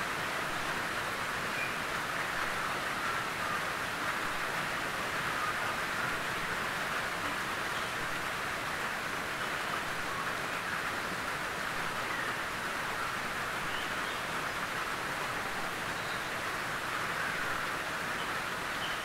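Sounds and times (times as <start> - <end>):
rain on a tin roof: 0.0 - 19.0.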